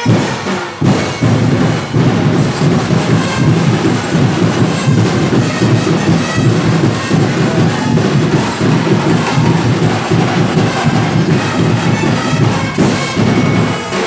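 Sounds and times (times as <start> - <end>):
drums and percussion: 0.0 - 14.0
loud live festival music: 0.0 - 14.0.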